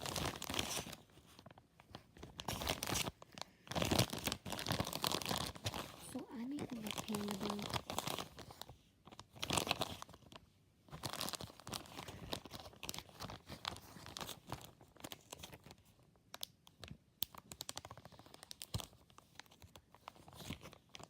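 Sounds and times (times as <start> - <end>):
plastic bag crinkling: 0.0 - 16.0, 17.3 - 21.0.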